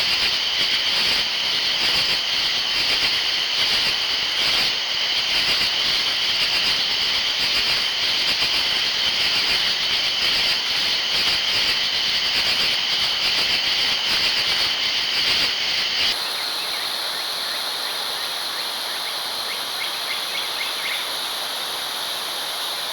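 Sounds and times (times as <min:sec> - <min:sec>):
hiss: 0:00.0 - 0:22.9.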